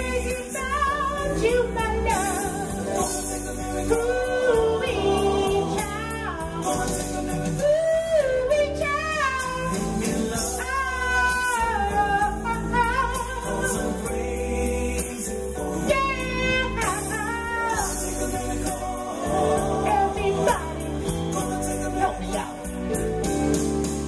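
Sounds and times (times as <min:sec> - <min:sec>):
man singing into microphone: 0:00.0 - 0:22.8
accompanying music: 0:00.0 - 0:24.0.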